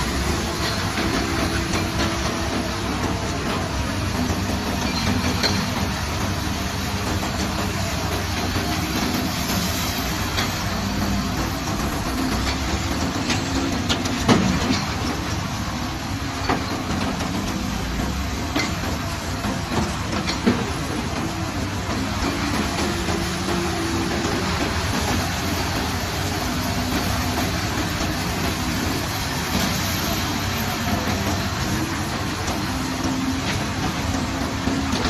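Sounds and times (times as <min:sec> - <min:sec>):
heavy machinery engine rumbling: 0:00.0 - 0:35.0
sharp knocks and clanks: 0:00.0 - 0:35.0.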